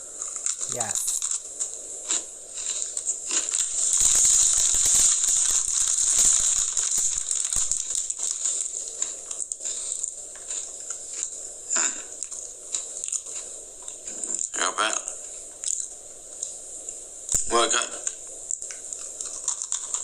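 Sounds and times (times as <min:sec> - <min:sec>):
cookie crunching while chewed: 0:00.1 - 0:16.6, 0:18.0 - 0:20.0.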